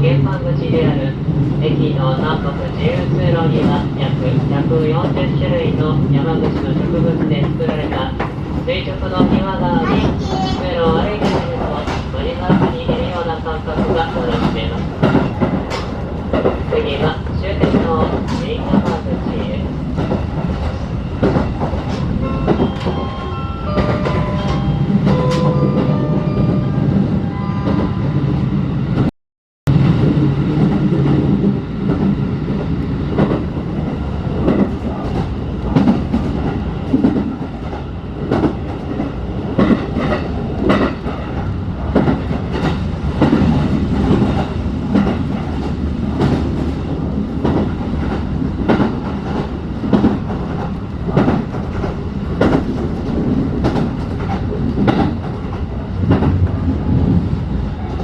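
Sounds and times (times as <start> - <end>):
train coach rumble: 0.0 - 29.1, 29.7 - 58.0.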